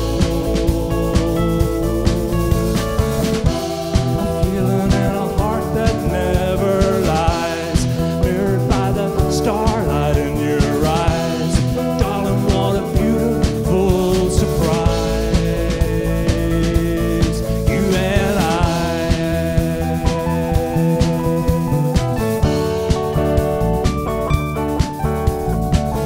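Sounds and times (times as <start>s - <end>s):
man singing: 0.0s - 21.9s
bass guitar: 0.0s - 26.0s
drum kit beat: 0.0s - 26.0s
electric guitar: 0.0s - 26.0s.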